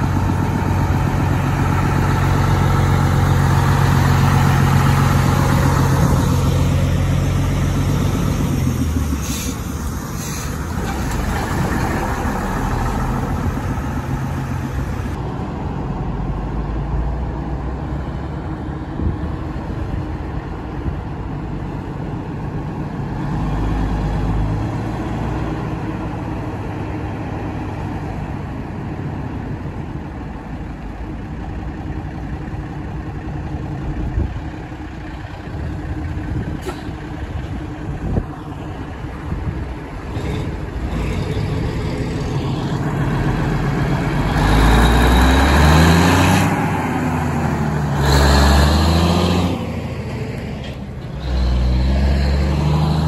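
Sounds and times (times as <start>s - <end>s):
heavy engines idling: 0.0s - 23.4s, 24.1s - 51.9s
lorry diesel engine moving off: 0.0s - 53.0s.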